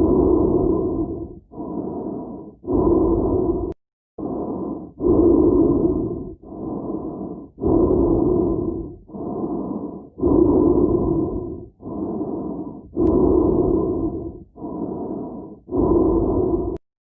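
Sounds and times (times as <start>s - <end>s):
person breathing inside helmet: 0.0s - 16.8s.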